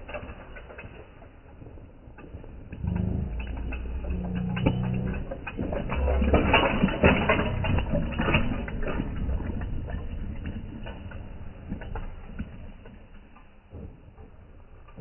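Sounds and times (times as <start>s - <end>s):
bike tyres rolling over dirt: 0.0s - 15.0s.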